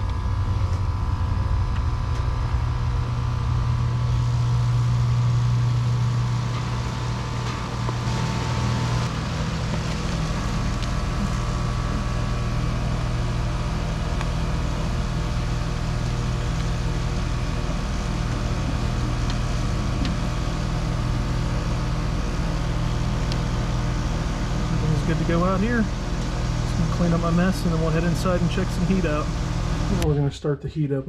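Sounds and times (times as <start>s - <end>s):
fan whooshing: 0.0s - 30.4s
compressor hum: 0.0s - 31.0s.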